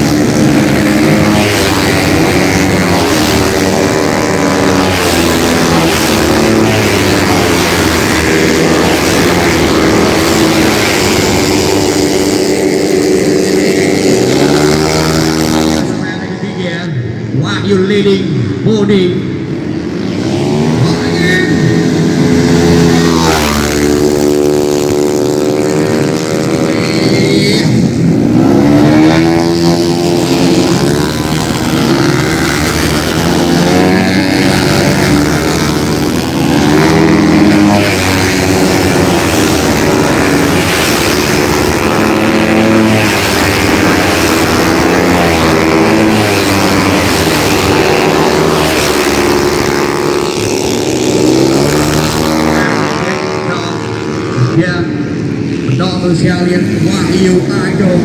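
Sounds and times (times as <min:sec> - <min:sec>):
motorcycles revving past: 0:00.0 - 0:17.4, 0:19.2 - 0:58.0.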